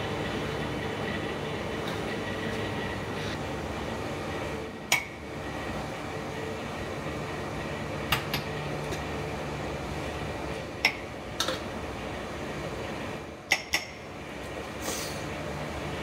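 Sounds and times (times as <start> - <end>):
low kitchen hum: 0.0 - 16.0.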